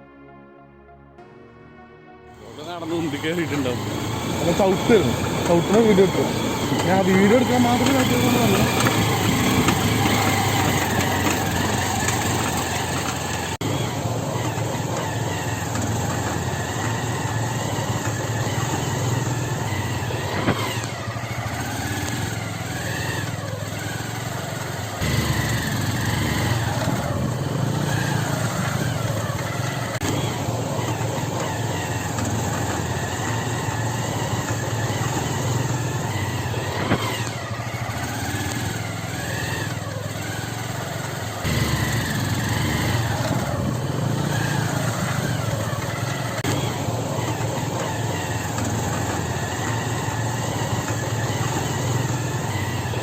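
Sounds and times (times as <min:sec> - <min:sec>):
motorcycle engine revving: 0:02.3 - 0:53.0.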